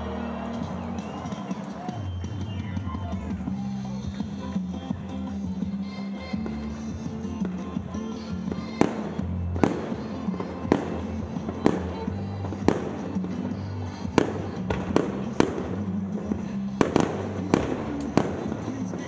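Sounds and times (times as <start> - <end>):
music with bass line: 0.0 - 19.0
fireworks bursting with bangs: 0.2 - 19.0.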